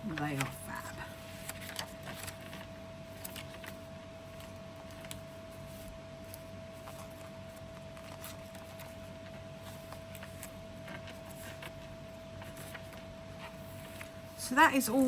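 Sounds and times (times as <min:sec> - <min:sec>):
faint steady hum: 0:00.0 - 0:15.0
paper pages rustling: 0:00.0 - 0:15.0.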